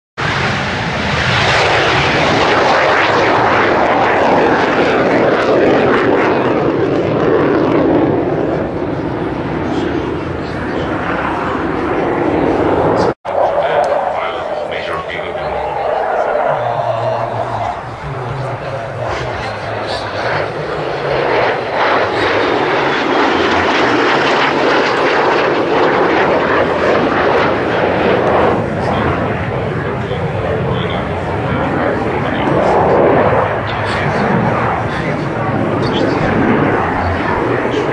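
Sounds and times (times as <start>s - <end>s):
jet engine roar passing: 0.2s - 37.9s.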